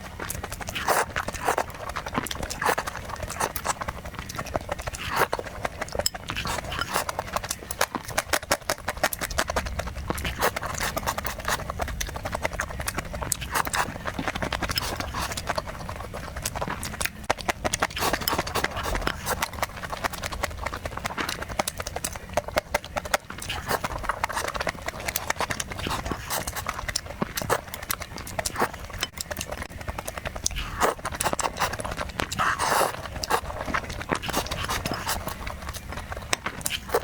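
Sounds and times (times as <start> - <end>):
person chewing and lip-smacking: 0.0 - 37.0.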